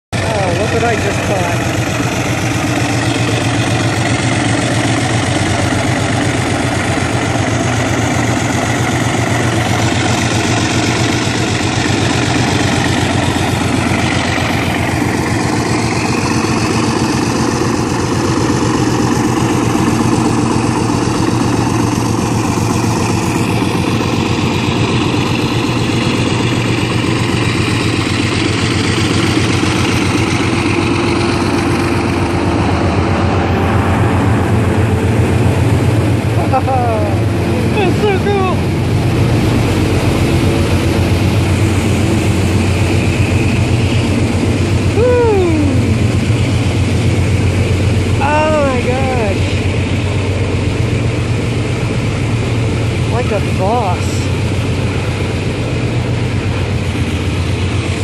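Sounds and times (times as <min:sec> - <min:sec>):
diesel locomotive engines rumbling: 0:00.1 - 0:58.0.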